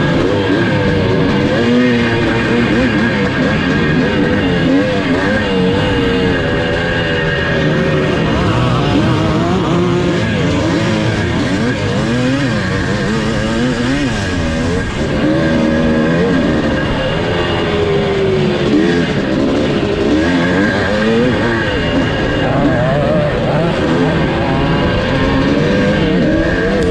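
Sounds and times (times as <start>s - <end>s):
two-stroke engine revving: 0.0s - 26.9s.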